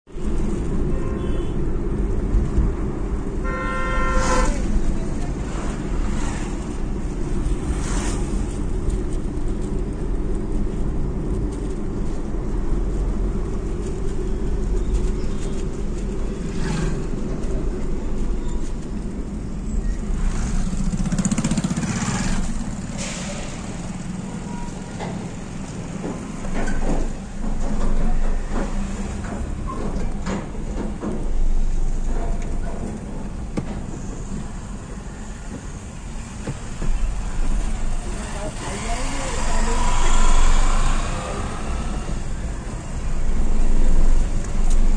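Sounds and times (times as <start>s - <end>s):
car engine and road noise inside: 0.1s - 44.9s.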